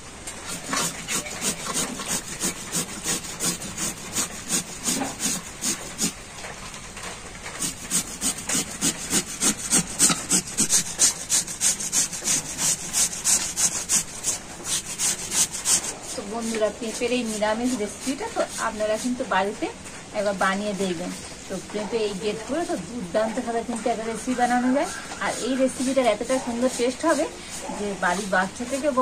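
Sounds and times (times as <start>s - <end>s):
papaya rasping on grater: 0.4s - 6.2s, 7.4s - 19.7s, 22.1s - 29.0s.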